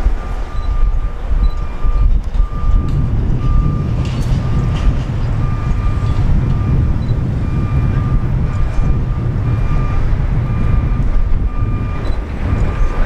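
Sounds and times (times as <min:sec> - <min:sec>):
heavy low rumble: 0:00.0 - 0:13.0
truck reversing alarm beeping: 0:00.0 - 0:13.0.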